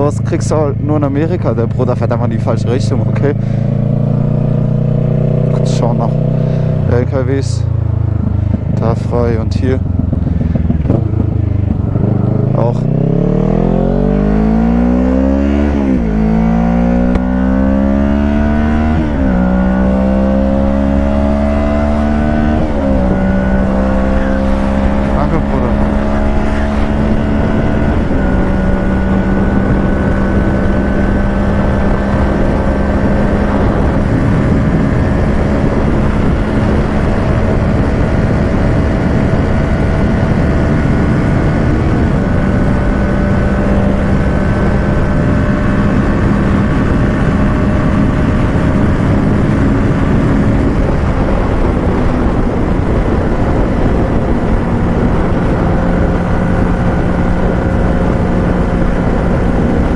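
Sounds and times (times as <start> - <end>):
motorcycle engine cruising: 0.0 - 59.9
road noise: 0.0 - 59.9
wind noise: 0.0 - 59.9.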